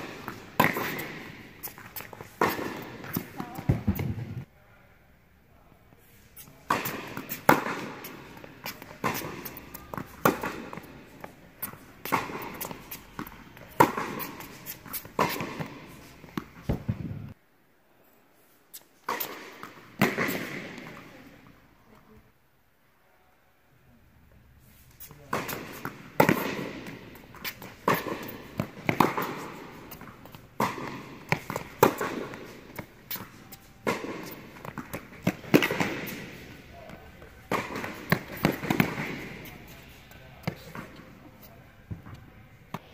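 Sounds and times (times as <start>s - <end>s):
tennis ball bouncing: 0.0s - 4.4s, 6.5s - 17.4s, 19.1s - 21.1s, 25.3s - 42.9s
racquets striking tennis ball: 0.0s - 4.5s, 6.4s - 17.4s, 19.0s - 21.3s, 25.0s - 42.9s.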